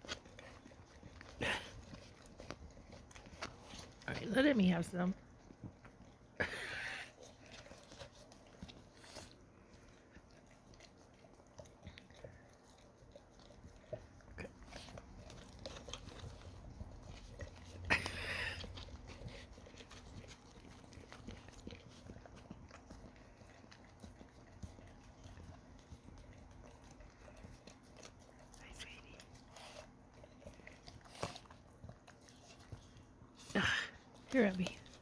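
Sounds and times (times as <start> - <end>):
dogs licking and chewing: 0.0 - 35.0.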